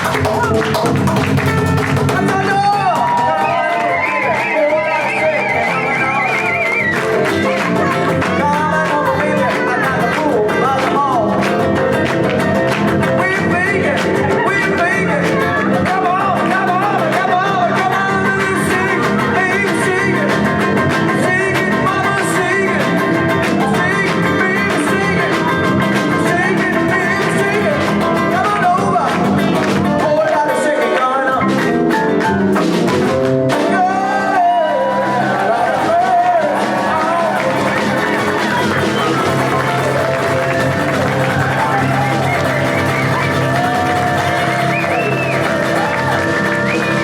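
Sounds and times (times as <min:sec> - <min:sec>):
live band playing: 0:00.0 - 0:47.0.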